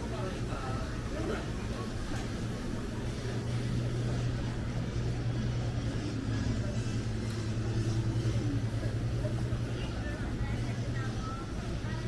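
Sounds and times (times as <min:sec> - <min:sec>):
city background noise: 0:00.0 - 0:12.0
low mechanical hum: 0:00.0 - 0:12.0.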